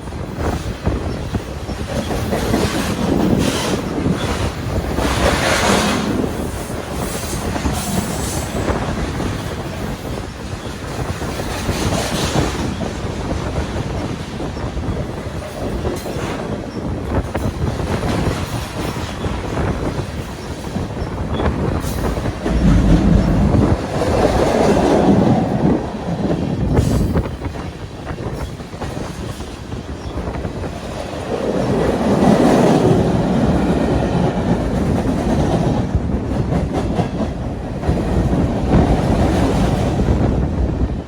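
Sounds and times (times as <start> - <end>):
freight train wheels clattering: 0.0 - 41.0.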